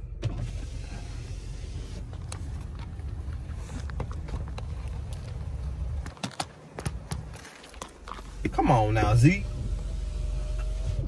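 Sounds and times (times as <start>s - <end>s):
car rumble from inside cabin: 0.0s - 6.1s, 6.9s - 11.0s.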